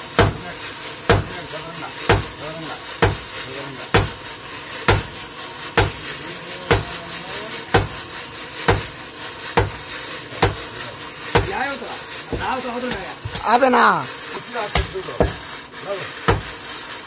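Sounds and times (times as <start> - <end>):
sledgehammer striking hot iron: 0.0 - 13.6, 14.2 - 17.0.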